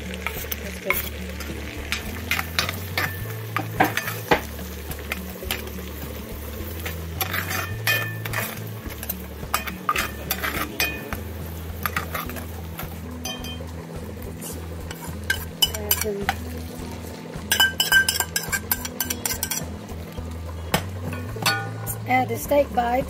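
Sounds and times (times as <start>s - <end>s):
butter sizzling in skillet: 0.0s - 23.0s
metal spoon clinking and scraping pan: 0.2s - 13.7s, 14.4s - 16.7s, 17.5s - 19.8s, 21.0s - 22.0s.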